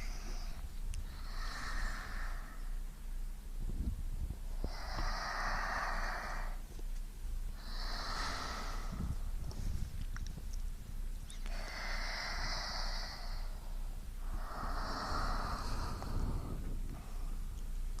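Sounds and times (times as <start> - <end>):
slow breathing close to microphone: 0.0 - 6.7, 7.5 - 18.0.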